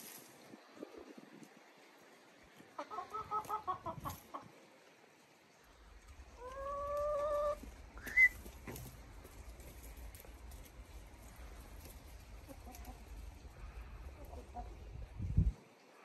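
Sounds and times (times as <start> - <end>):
hens clucking: 0.7 - 4.7, 5.9 - 15.3.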